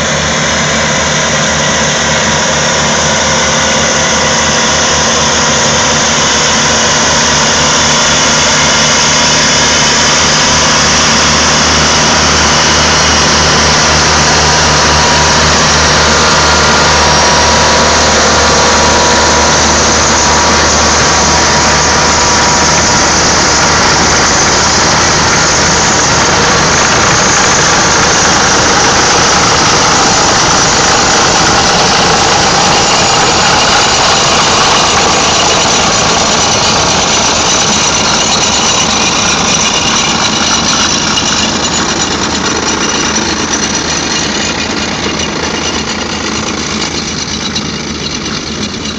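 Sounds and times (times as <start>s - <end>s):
tractor diesel engine running: 0.0s - 48.9s
mechanical noise from implement: 2.2s - 48.9s.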